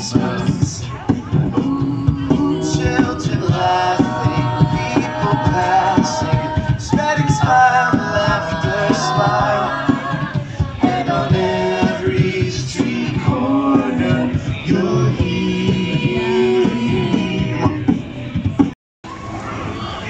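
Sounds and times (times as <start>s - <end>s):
a cappella group singing: 0.0s - 18.2s
beatboxed percussion: 0.0s - 18.8s.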